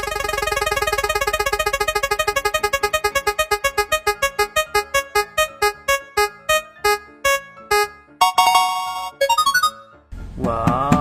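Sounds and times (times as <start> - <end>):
prize wheel electronic ticking notes: 0.0 - 9.9.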